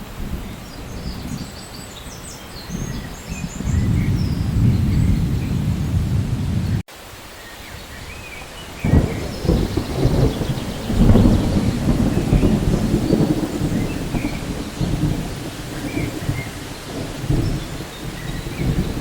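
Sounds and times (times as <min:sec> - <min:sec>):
thunder rumbling: 0:00.0 - 0:06.8, 0:07.9 - 0:19.0
rain falling: 0:00.0 - 0:19.0.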